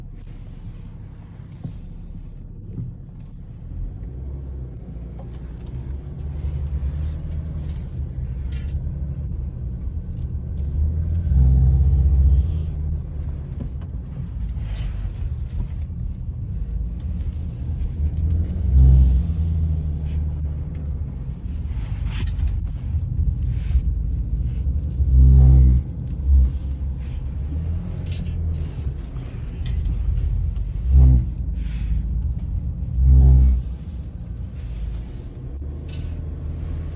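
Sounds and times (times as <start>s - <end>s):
car humming rumble while driving: 0.0s - 36.9s.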